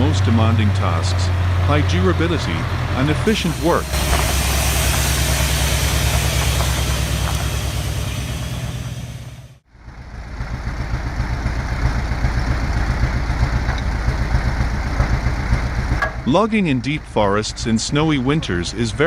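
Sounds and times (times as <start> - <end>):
engine pulsing fast: 0.0 - 19.0
heavy diesel engine running: 0.0 - 19.0.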